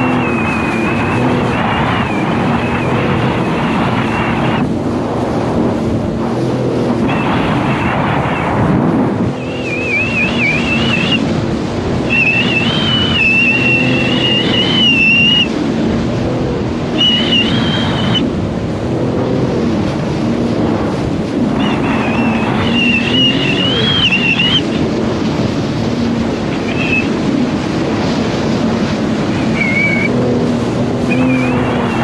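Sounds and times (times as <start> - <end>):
high wavering whine: 0.0 - 32.0
water rushing: 0.0 - 32.0
watercraft engine running: 0.0 - 32.0
wind on microphone: 0.0 - 32.0.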